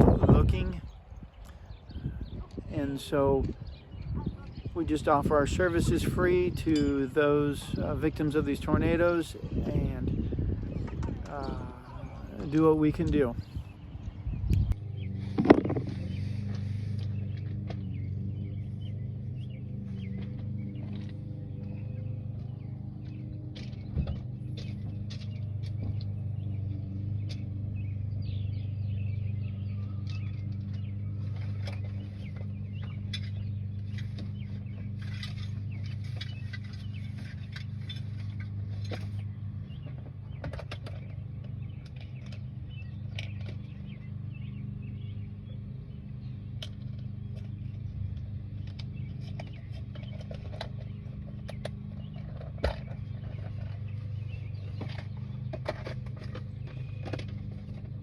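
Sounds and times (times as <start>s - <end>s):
low mechanical hum: 0.0s - 58.0s
small birds chirping: 0.0s - 58.0s.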